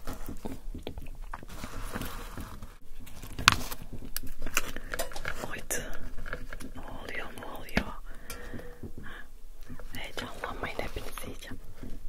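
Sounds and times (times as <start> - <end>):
sharp crackle: 0.0 - 12.0.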